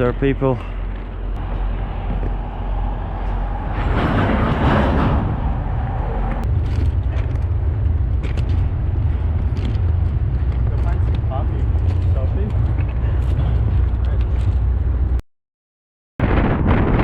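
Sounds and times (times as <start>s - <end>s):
freight train rumbling: 0.0s - 15.2s.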